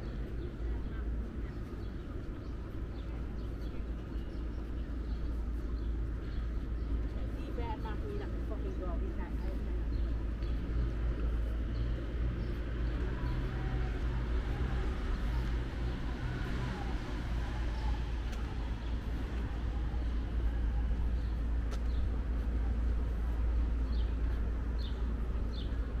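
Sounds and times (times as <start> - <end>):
city traffic rumble: 0.0 - 26.0
vehicle engine humming: 0.0 - 26.0.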